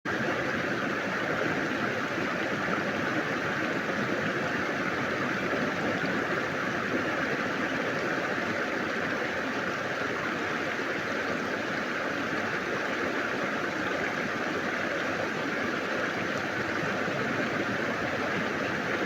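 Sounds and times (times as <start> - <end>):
flowing water rushing: 0.1 - 19.0.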